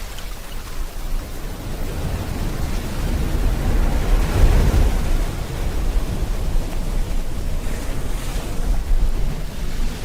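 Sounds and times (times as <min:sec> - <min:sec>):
ocean surf: 0:00.0 - 0:10.0
rain: 0:00.0 - 0:10.0.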